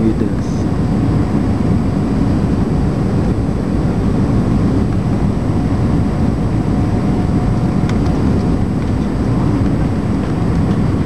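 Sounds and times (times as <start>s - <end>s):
engine and airflow rush in cabin: 0.0s - 11.0s.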